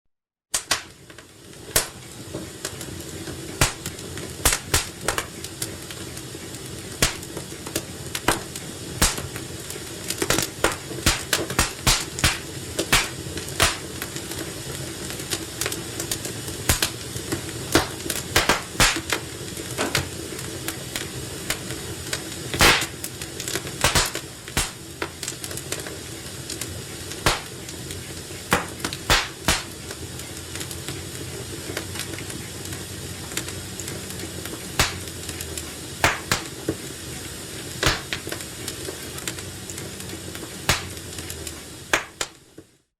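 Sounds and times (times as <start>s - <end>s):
fire crackling and popping: 0.5s - 42.9s.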